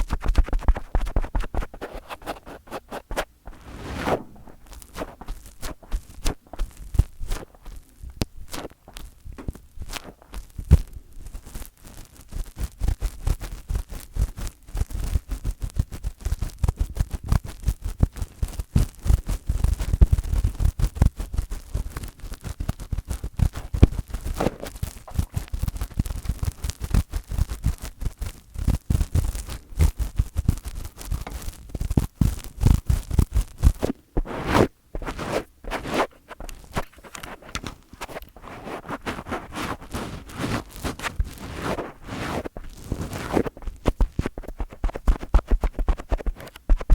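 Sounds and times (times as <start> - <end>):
fingers rubbing on microphone: 0.0 - 46.9.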